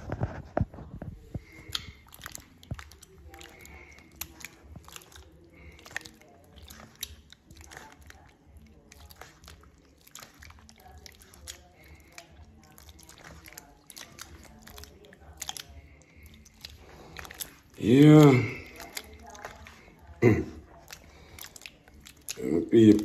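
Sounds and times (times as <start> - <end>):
wet squelching and sloshing: 0.0 - 23.0.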